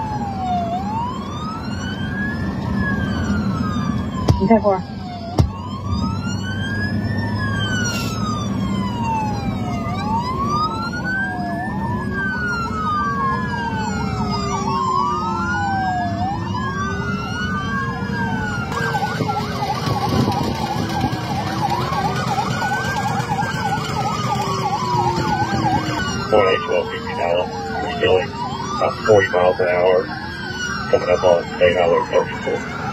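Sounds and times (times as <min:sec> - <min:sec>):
fast yelping siren: 0:00.0 - 0:32.9
police sirens wailing: 0:00.0 - 0:32.9
road noise: 0:00.0 - 0:32.9.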